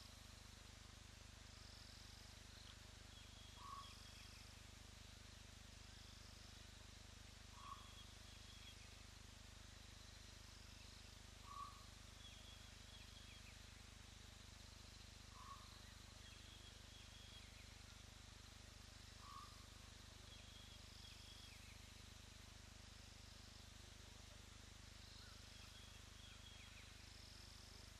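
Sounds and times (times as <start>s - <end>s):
steady hiss: 0.0s - 27.9s.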